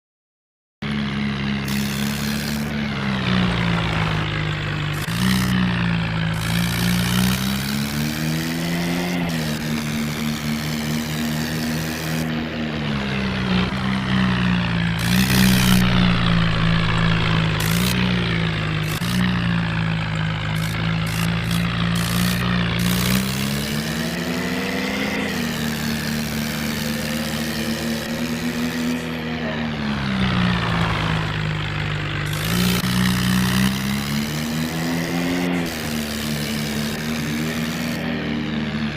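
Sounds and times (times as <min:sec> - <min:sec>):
tractor engine revving: 0:00.8 - 0:38.9.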